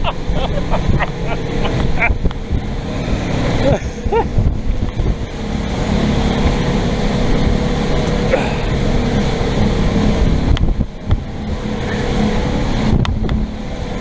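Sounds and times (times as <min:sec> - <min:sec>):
motorboat engine running: 0:00.0 - 0:14.0
wind rushing over microphone: 0:00.0 - 0:14.0.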